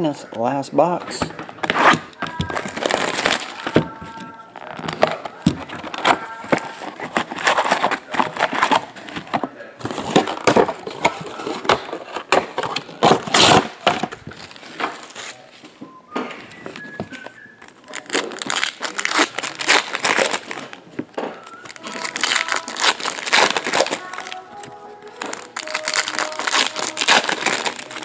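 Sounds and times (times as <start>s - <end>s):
cardboard box and foil packs rustling: 0.8s - 28.0s
plastic shrink-wrap crinkling: 1.2s - 15.8s, 16.5s - 28.0s.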